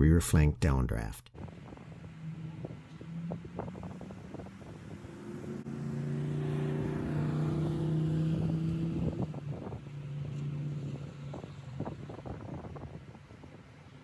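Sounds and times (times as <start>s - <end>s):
road and wind noise: 0.7s - 14.0s
vehicle engine hum: 1.3s - 14.0s.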